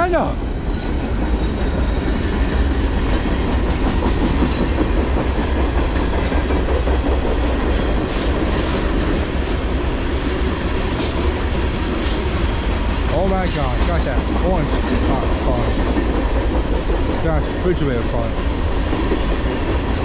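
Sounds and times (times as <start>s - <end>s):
train wheels rumbling on rail: 0.0s - 20.0s
light clacks of rail cars: 0.4s - 20.0s.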